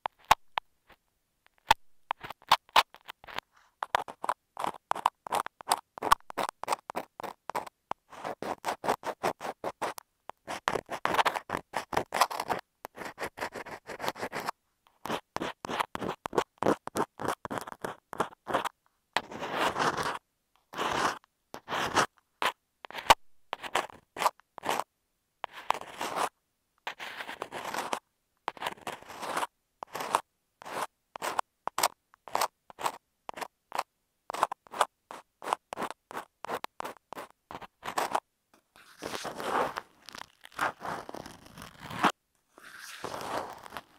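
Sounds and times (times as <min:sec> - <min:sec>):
ear pick scratching microphone: 0:00.0 - 0:26.3, 0:26.9 - 0:38.2, 0:38.8 - 0:43.9.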